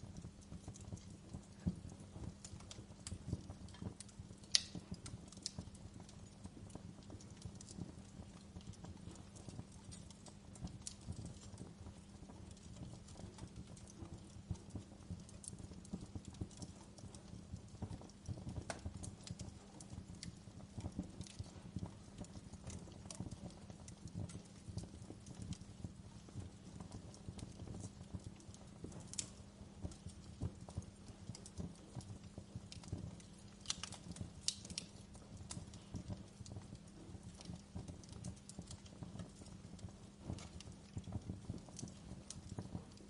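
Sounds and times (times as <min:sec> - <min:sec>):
low rumble of burning: 0:00.0 - 0:43.0
wood fire pops and snaps: 0:00.0 - 0:43.0.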